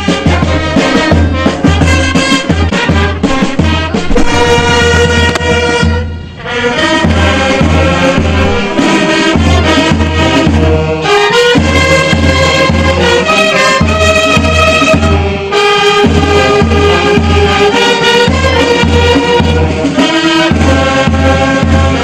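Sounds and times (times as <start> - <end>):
military brass band playing: 0.0 - 22.0.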